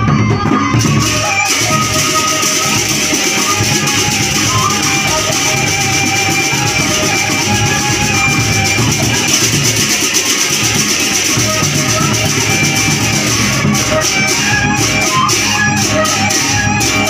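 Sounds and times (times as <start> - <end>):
bamboo flute melody: 0.0 - 17.0
drums: 0.0 - 17.0
gamelan ensemble playing: 0.7 - 17.0.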